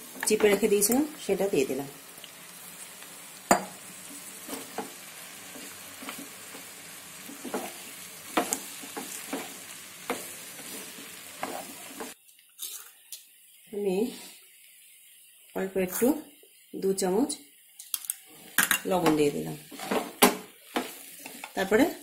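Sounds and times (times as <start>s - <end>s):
food sizzling in pan: 0.0s - 22.0s.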